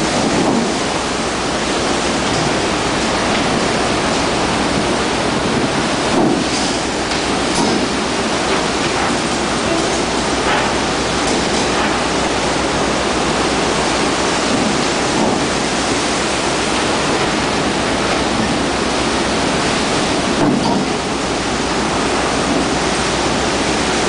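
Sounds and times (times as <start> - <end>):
waves washing over deck: 0.0 - 24.0.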